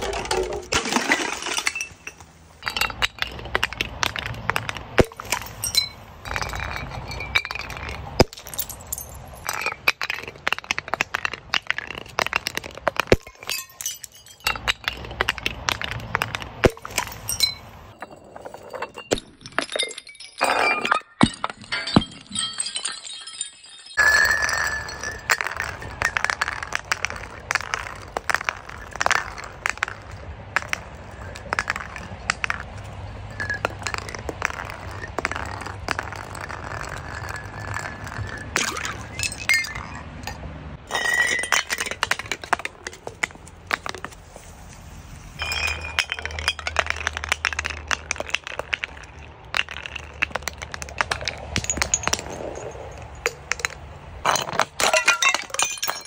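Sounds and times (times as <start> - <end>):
bottles bursting and breaking: 0.0 - 40.0, 40.8 - 44.0, 45.4 - 56.0
bottles tumbling down concrete steps: 0.0 - 44.6, 45.3 - 56.0.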